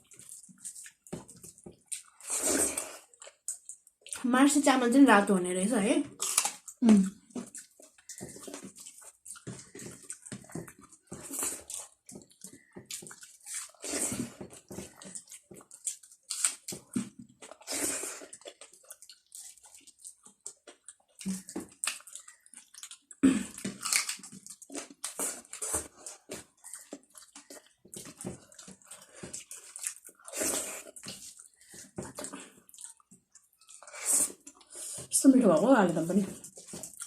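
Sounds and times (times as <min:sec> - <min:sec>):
wet chewing and smacking: 0:00.0 - 0:04.6, 0:06.0 - 0:37.0.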